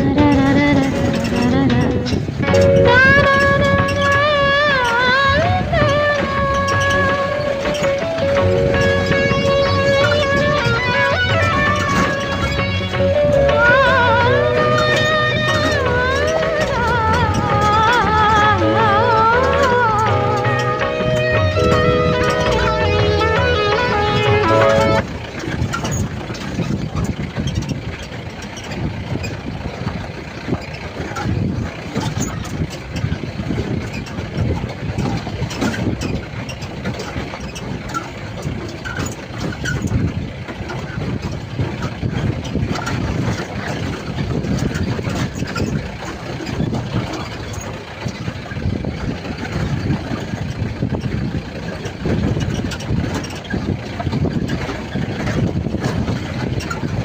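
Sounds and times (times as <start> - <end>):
jeep engine rumble: 0.0 - 57.0
knocks and rattles: 0.0 - 57.0.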